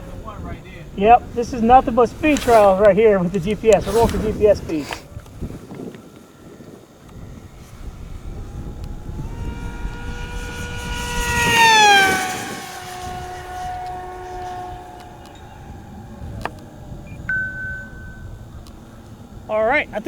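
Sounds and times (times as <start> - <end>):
model plane motor whining past: 0.3 - 17.3, 17.9 - 20.0.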